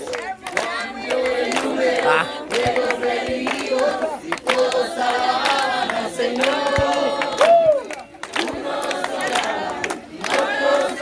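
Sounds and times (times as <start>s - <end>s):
group singing a chorus: 0.0s - 11.0s
hand claps: 0.0s - 11.0s.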